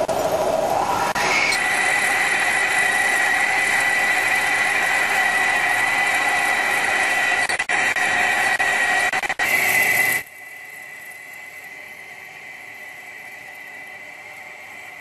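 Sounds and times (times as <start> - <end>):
machine tool whining: 0.0 - 15.0.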